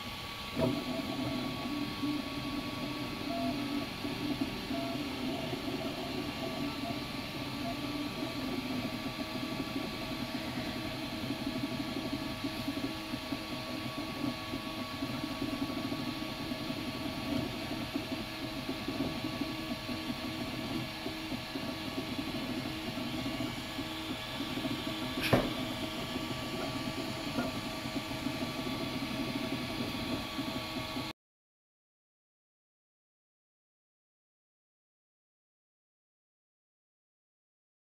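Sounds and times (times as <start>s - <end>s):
three d printer motors whining: 0.1s - 31.1s.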